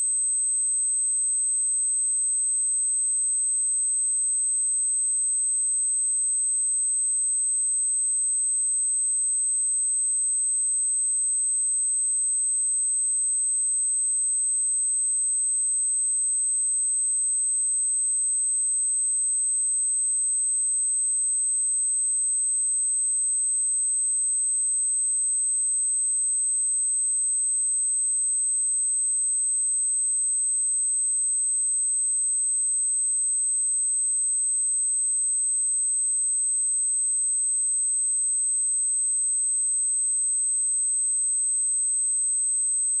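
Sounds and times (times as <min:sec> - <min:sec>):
high-pitched sine test tone: 0:00.0 - 0:43.0.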